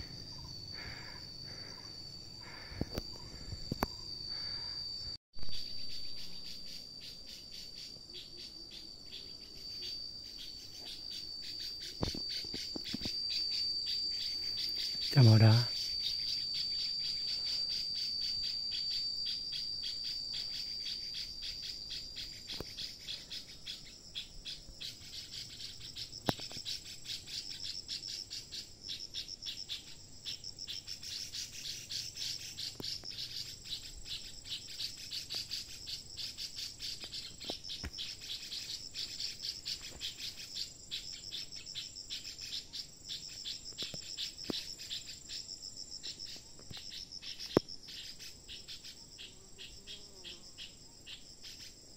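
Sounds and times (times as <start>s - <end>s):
insect high-pitched whine: 0.0s - 51.9s
insect pulsing trill: 0.0s - 51.9s.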